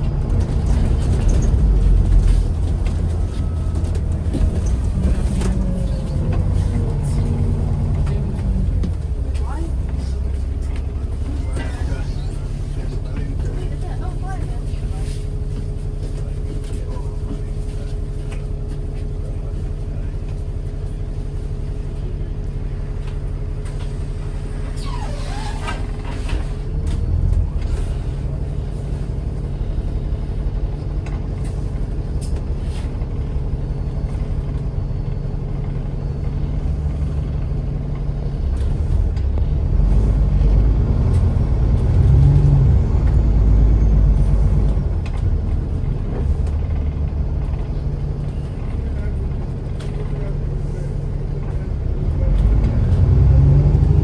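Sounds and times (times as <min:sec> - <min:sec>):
bus engine accelerating: 0:00.0 - 0:54.0.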